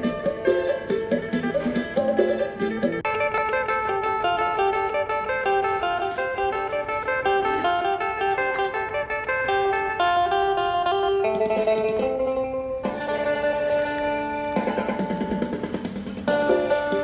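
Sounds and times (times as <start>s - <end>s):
plucked lute melody: 0.0s - 17.0s.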